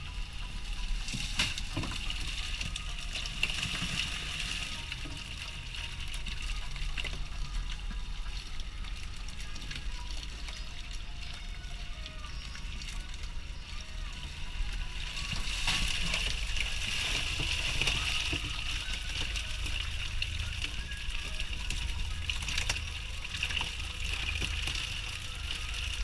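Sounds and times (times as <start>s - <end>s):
boat engine humming: 0.0s - 26.0s
seawater splashing and dripping: 0.0s - 26.0s.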